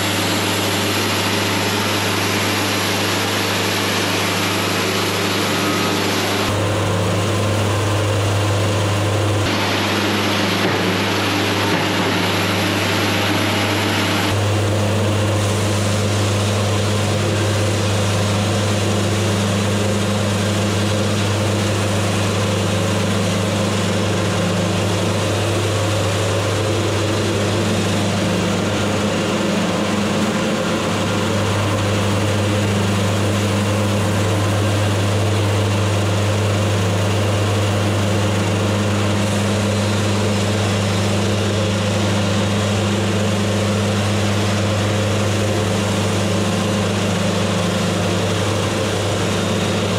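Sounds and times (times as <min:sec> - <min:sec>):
band sawmill cutting wood: 0:00.0 - 0:49.9.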